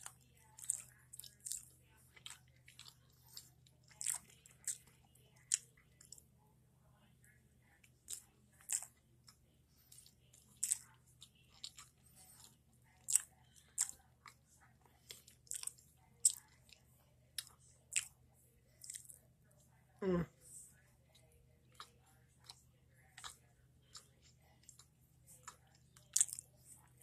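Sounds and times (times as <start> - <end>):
chewing and mouth smacks: 0.0 - 6.3, 7.8 - 19.2, 21.1 - 27.0
faint low hum: 0.0 - 27.0.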